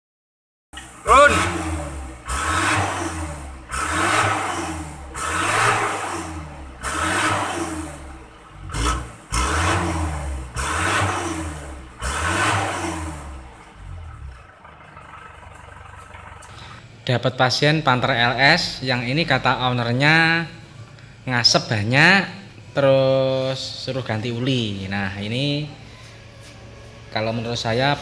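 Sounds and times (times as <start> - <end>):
diesel engine revving: 0.8 - 28.0.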